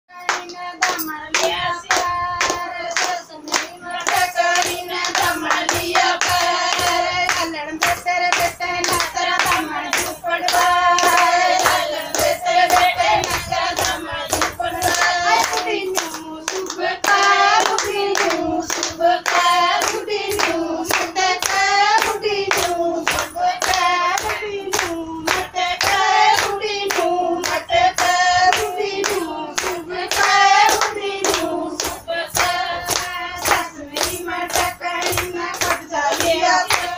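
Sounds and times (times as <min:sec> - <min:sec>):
hand-clapping beat: 0:00.1 - 0:36.9
women singing in unison: 0:00.1 - 0:36.9.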